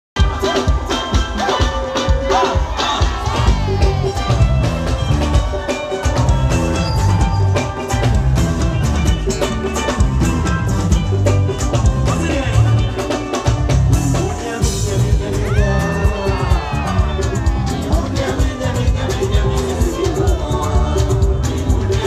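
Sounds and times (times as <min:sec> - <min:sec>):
live dance band music: 0:00.2 - 0:22.0.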